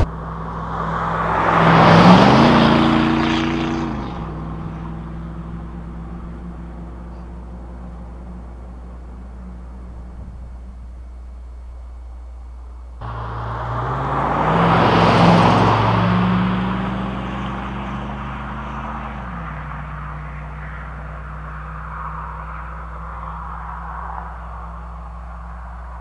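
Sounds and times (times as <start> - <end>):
truck accelerating past: 0.0 - 10.4, 13.0 - 26.0.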